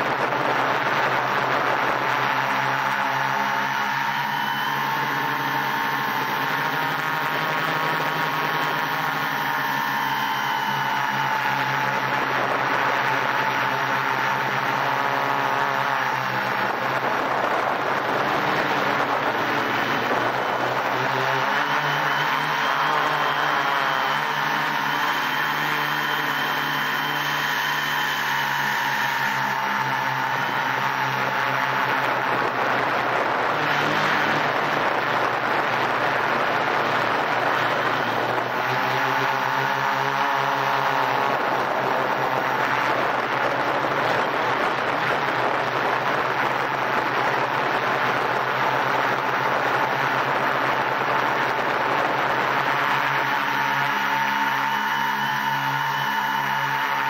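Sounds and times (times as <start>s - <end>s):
drone propellers whirring: 0.0s - 57.0s.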